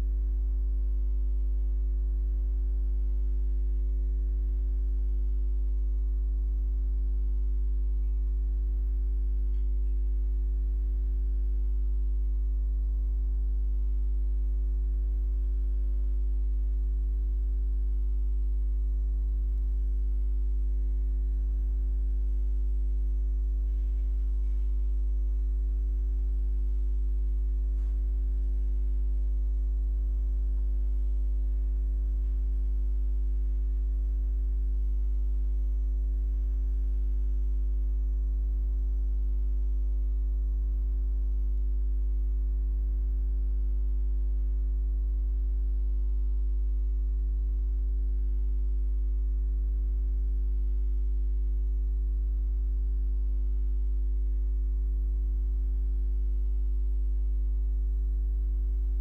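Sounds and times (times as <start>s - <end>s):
mains hum: 0.0s - 59.0s.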